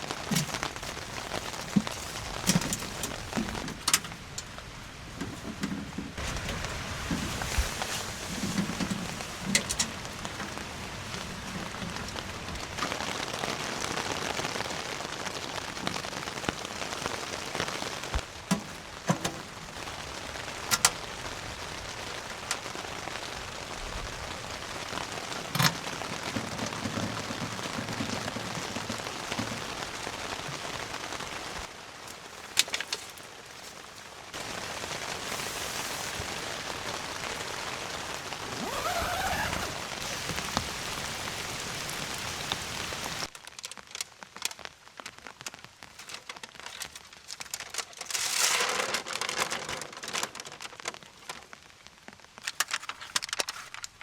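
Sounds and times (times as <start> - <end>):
scattered drips and crackles: 0.0 - 54.0
steady rain falling: 0.0 - 54.0.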